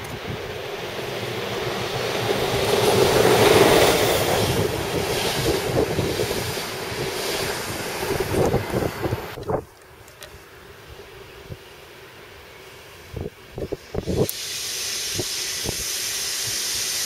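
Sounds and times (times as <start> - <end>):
train passing at speed: 0.0 - 9.4, 10.5 - 17.0.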